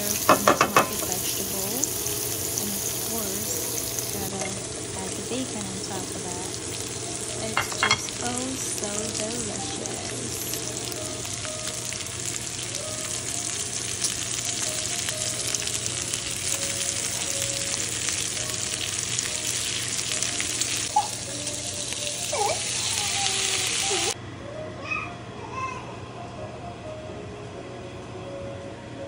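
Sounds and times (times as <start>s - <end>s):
food sizzling in a frying pan: 0.0s - 24.2s.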